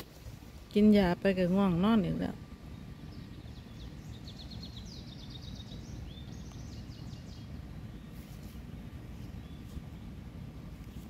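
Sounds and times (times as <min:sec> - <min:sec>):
low outdoor rumble: 0:00.0 - 0:11.0
songbird chirping: 0:00.0 - 0:11.0.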